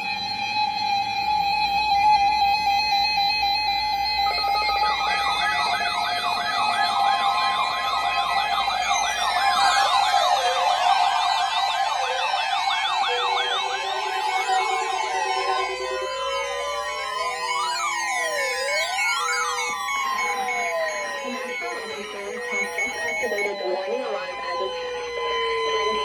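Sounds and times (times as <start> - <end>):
overlapping warbling siren tones: 0.0 - 26.0.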